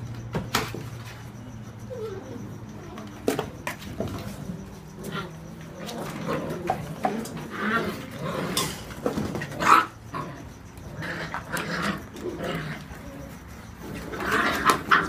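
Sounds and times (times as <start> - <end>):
puppies growling and yapping: 0.0 - 15.0.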